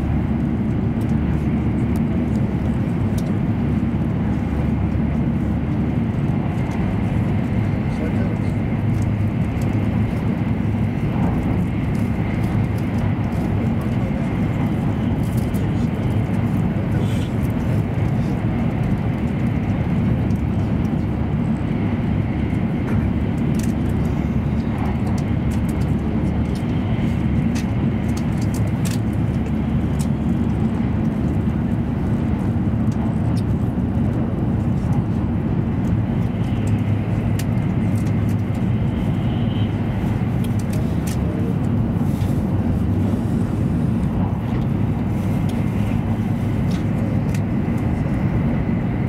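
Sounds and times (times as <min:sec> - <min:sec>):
train rumble and rushing: 0:00.0 - 0:49.0.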